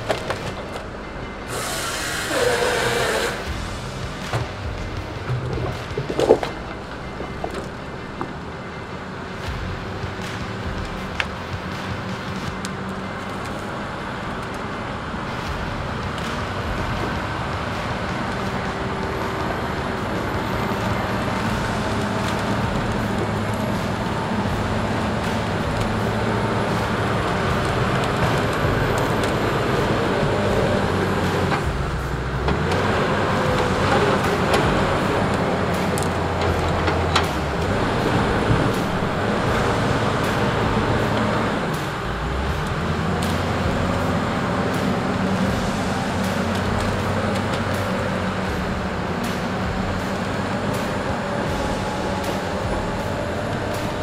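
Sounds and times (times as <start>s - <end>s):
diesel engines working: 0.0s - 54.0s
knocks and clanks: 0.0s - 54.0s.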